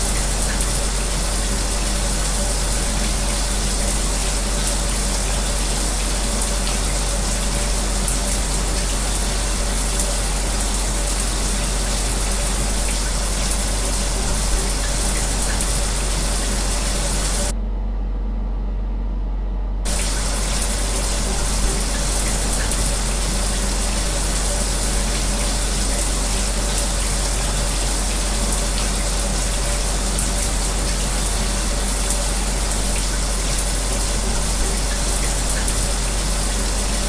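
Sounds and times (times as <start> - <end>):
shower spray hissing: 0.0 - 17.5, 19.9 - 37.0
fan humming: 0.0 - 17.7, 19.8 - 37.0.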